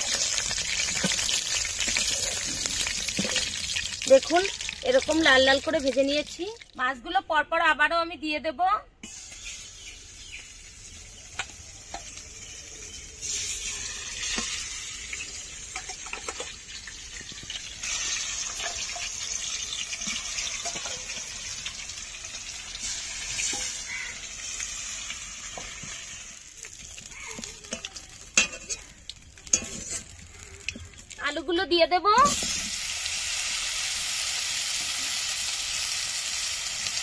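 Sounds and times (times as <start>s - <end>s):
fish sizzling in oil: 0.0s - 6.8s, 9.0s - 31.5s, 32.1s - 37.0s.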